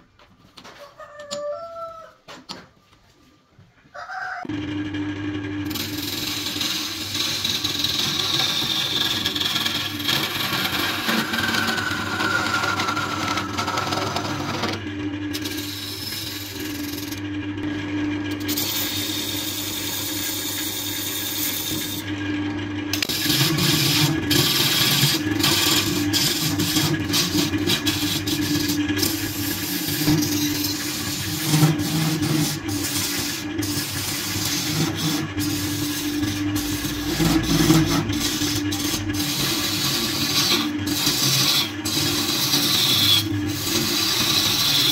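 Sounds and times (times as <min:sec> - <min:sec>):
wood lathe motor hum: 0:04.4 - 0:44.9
turning tool scraping wood: 0:05.6 - 0:44.9.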